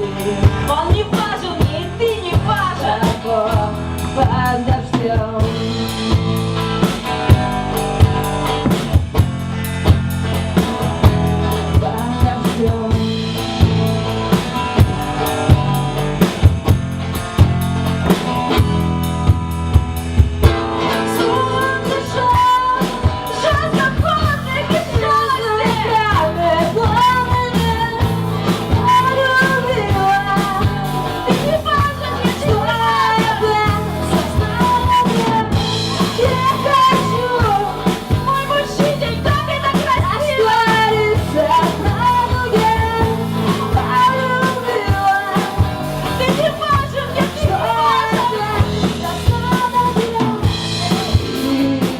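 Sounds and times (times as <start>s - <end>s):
drum kit beat: 0.0s - 51.9s
rock band playing: 0.0s - 51.9s.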